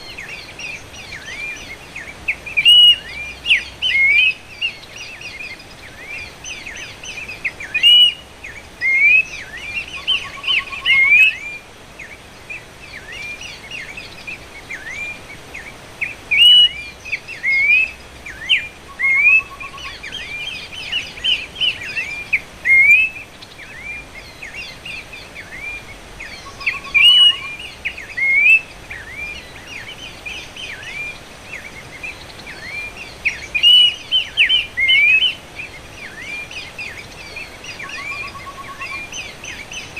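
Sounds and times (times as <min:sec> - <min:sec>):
babbler whistled calls: 0:00.2 - 0:08.2, 0:08.8 - 0:11.6, 0:14.7 - 0:39.9.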